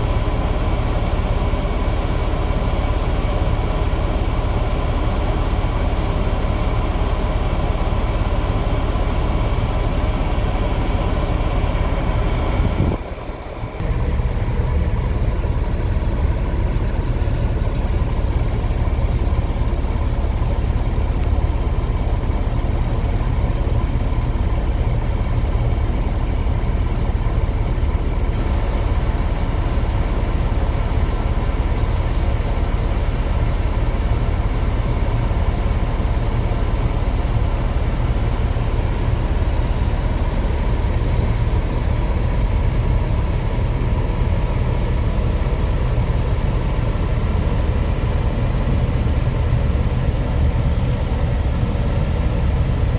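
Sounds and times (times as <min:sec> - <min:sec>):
diesel machinery engine rumbling: 0:00.0 - 0:52.9.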